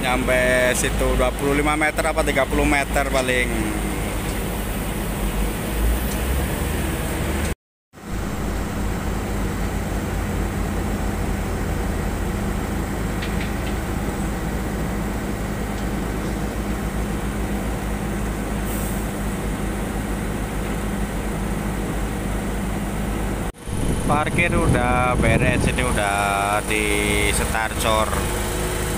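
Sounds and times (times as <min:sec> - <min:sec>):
diesel machinery engine drone: 0:00.0 - 0:28.9.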